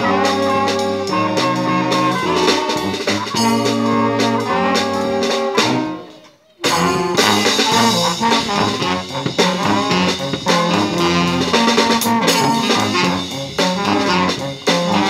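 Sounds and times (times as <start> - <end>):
sousaphone bass line: 0.0 - 6.0, 6.6 - 15.0
brass band playing: 0.0 - 15.0
drums keeping beat: 0.0 - 15.0.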